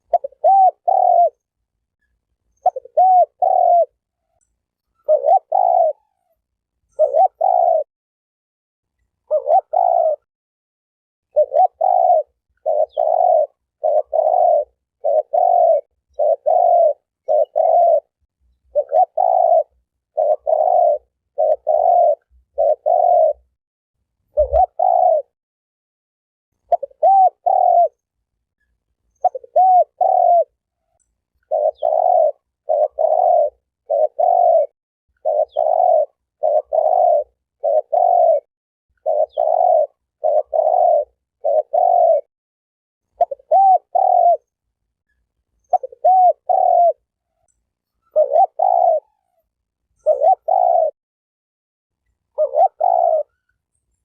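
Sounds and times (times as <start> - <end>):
dove cooing: 0.0 - 1.5, 2.5 - 7.9, 9.2 - 10.3, 11.3 - 23.5, 24.3 - 25.4, 26.6 - 28.0, 29.1 - 42.3, 43.1 - 44.6, 45.6 - 51.0, 52.3 - 53.6.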